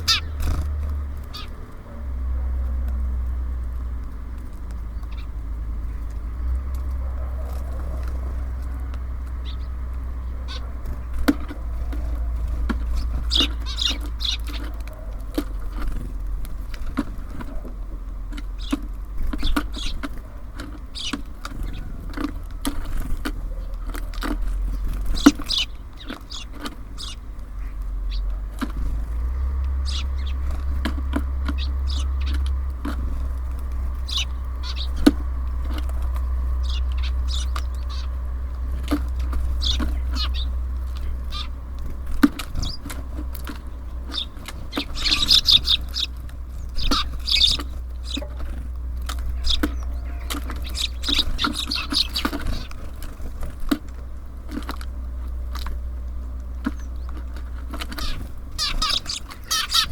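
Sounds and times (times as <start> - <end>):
city traffic rumble: 0.0 - 59.9
small birds chirping: 0.0 - 59.9.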